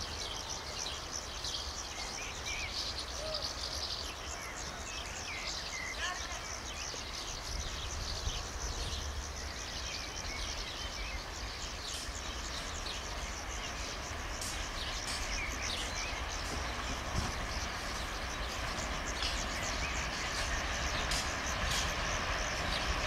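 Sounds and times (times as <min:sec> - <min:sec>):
outdoor background noise: 0:00.0 - 0:23.0
birds chirping: 0:00.3 - 0:23.0.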